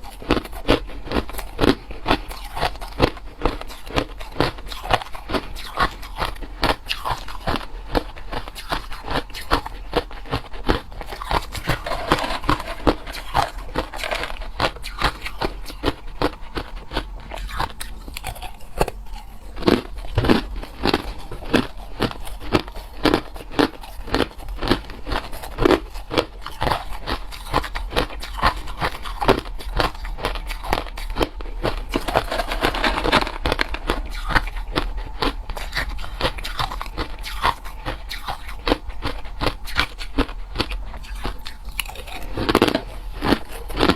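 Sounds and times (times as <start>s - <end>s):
chewing crushed ice: 0.0s - 43.9s.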